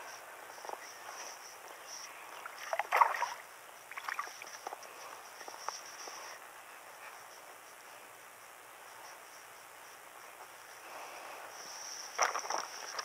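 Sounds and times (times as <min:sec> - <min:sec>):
pulsing high insect buzz: 0:00.0 - 0:13.0.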